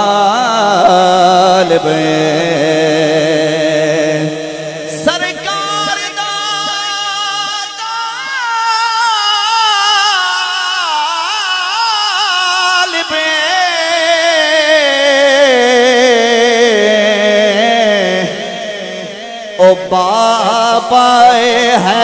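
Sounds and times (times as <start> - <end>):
man singing through microphone: 0.0 - 22.0.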